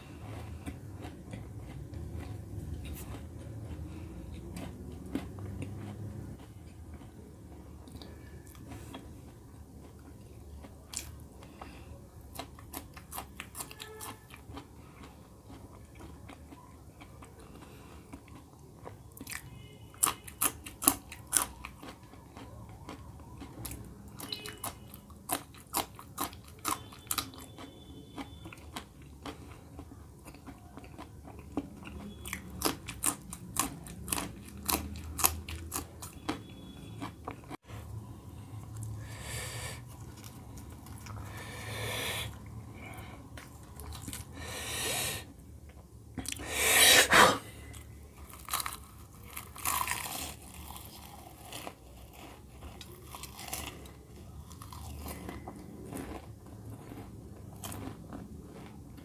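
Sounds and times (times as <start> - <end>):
chewing with sharp crunches: 0.0 - 59.0.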